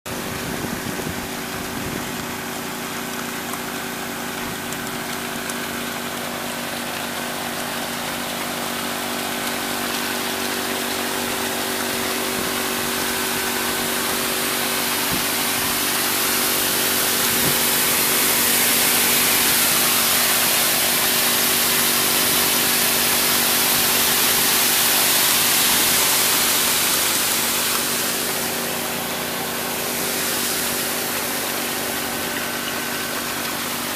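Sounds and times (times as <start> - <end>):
water pouring down sluice: 0.1 - 33.9
water pump engine running: 0.1 - 33.9.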